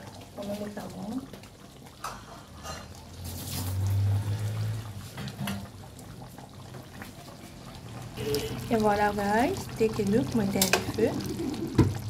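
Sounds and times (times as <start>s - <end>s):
gravy simmering and bubbling: 0.0s - 12.0s.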